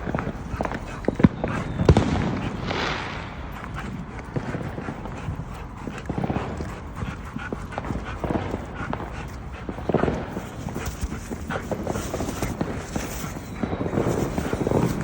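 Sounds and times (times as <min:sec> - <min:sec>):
dog noises: 0:00.0 - 0:15.0
footsteps: 0:00.0 - 0:15.0.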